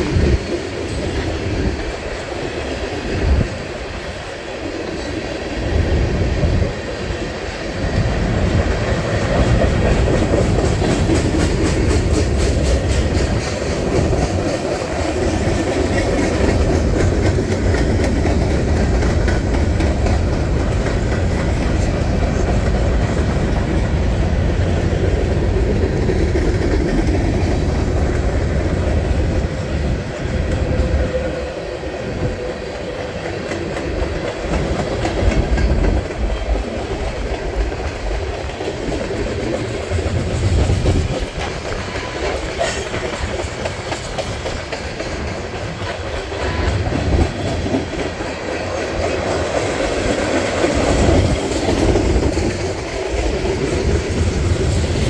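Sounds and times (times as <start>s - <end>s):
steel wheels on rail: 0.0s - 55.0s.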